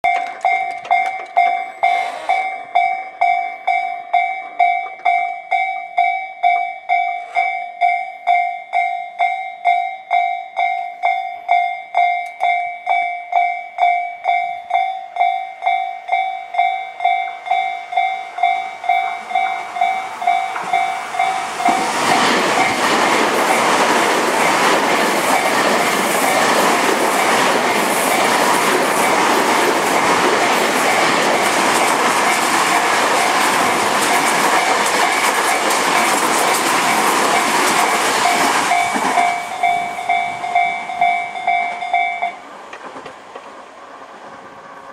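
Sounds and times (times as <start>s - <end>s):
level-crossing warning bell: 0.0s - 42.6s
electric trains passing: 0.0s - 44.9s.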